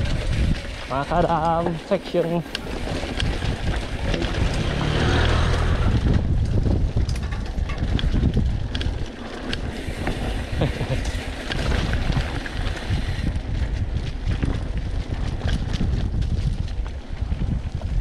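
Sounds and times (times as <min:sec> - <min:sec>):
mountain bike rattling on stony trail: 0:00.0 - 0:18.0
wind rumble on microphone: 0:00.0 - 0:18.0.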